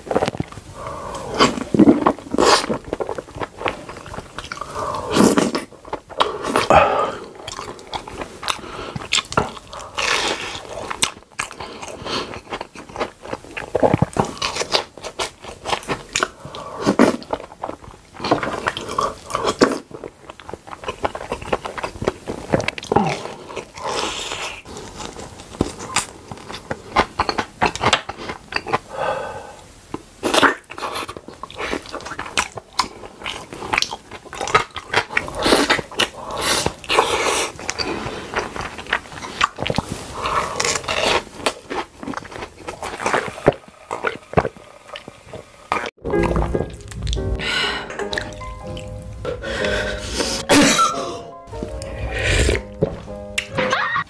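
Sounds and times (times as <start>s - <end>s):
close chewing and lip-smacking: 0.0s - 29.0s, 29.9s - 47.4s
crunch while eating: 0.0s - 29.0s, 30.2s - 45.9s.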